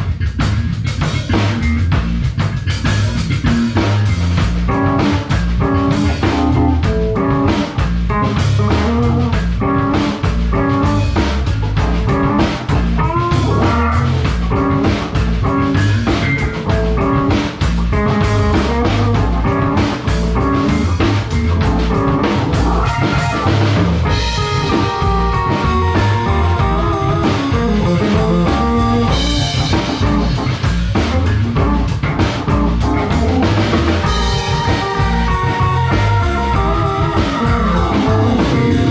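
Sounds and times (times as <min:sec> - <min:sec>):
drum kit steady beat: 0:00.0 - 0:38.9
electric bass: 0:00.0 - 0:38.9
electric guitar: 0:00.0 - 0:38.9.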